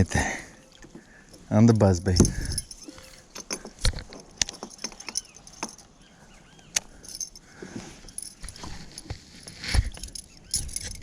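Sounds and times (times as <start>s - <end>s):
light clicks and clinks from handling fish: 0.0s - 11.0s.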